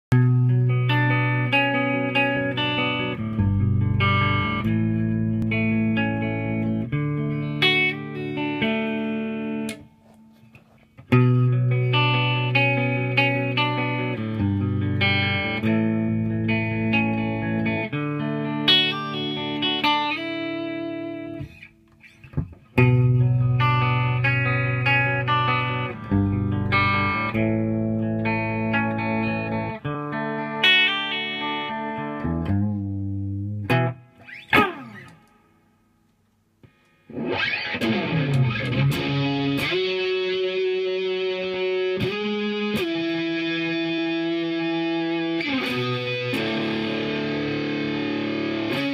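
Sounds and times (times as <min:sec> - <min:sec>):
electric guitar through amplifier: 0:00.1 - 0:35.6, 0:36.6 - 0:48.9.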